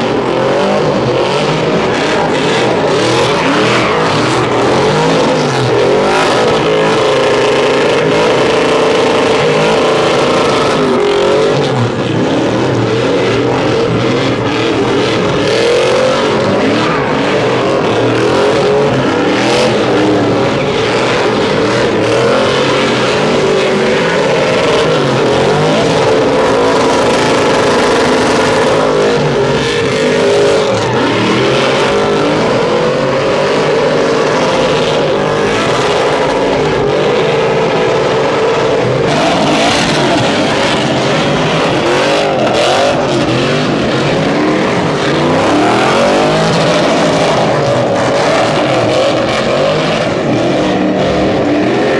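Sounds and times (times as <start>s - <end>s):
truck engines revving hard: 0.0s - 51.9s.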